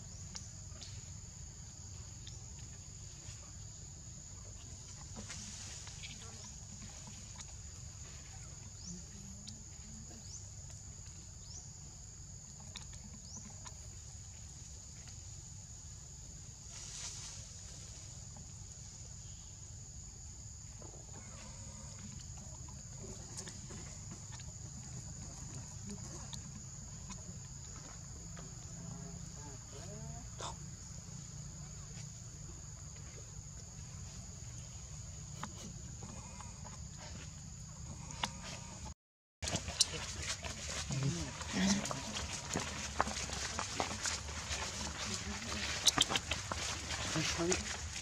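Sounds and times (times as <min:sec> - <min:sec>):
insects droning high-pitched: 0:00.0 - 0:48.0.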